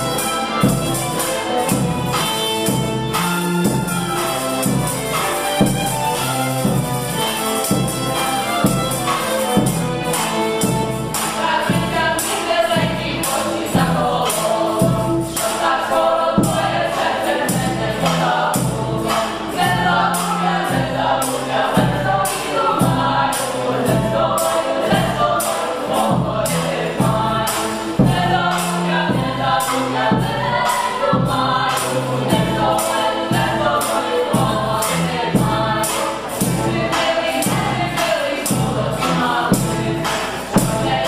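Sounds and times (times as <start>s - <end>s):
choir singing: 0.0s - 41.0s
percussion beat: 0.0s - 41.0s.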